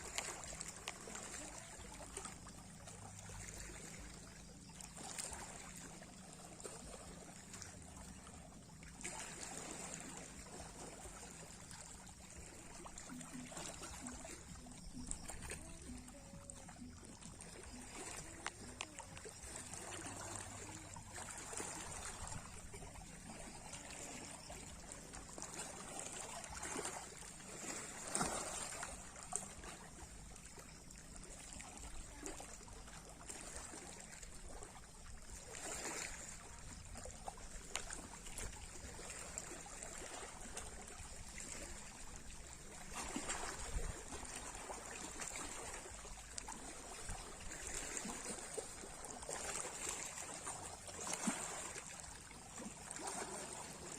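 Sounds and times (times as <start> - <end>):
sea waves lapping: 0.0 - 53.9.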